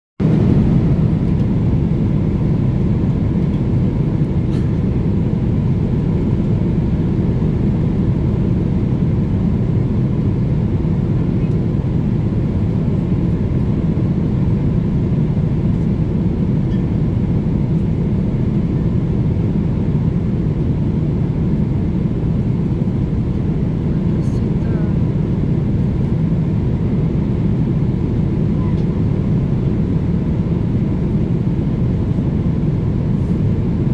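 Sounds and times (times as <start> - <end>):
airliner cabin roar: 0.2 - 33.9.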